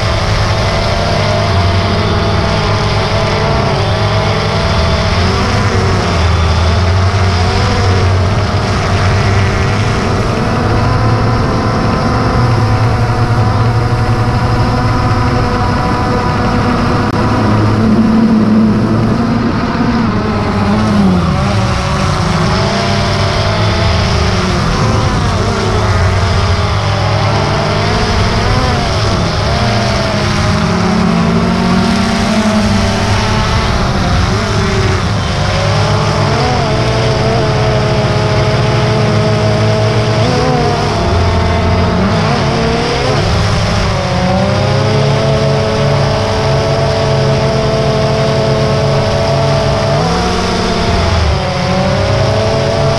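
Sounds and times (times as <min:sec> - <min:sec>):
quadcopter propellers whining: 0:00.0 - 0:52.9.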